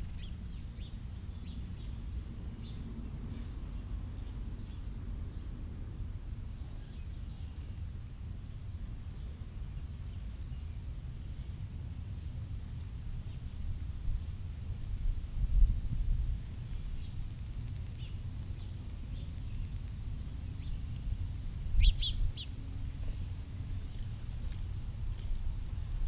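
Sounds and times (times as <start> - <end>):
small bird chirping: 0.0 - 25.8.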